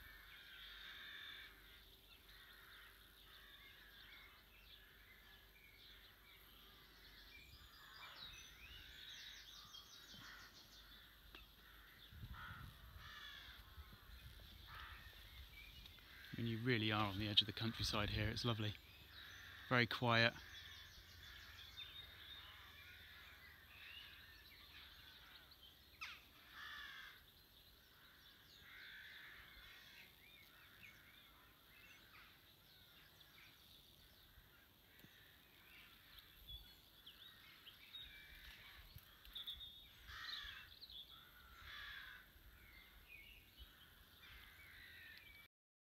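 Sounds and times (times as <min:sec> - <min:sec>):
birds chirping and warbling: 0:00.0 - 0:45.5.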